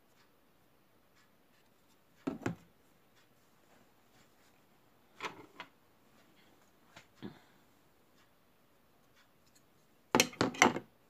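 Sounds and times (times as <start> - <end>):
faint ticking: 0.0 - 10.1.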